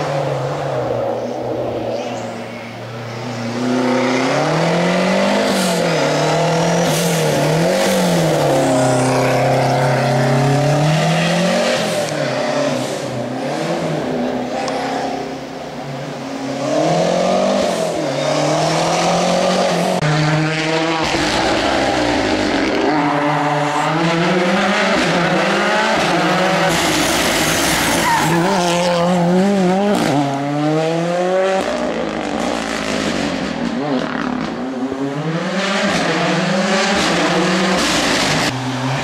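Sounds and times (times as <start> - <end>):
rally car engine revving: 3.1 - 39.0.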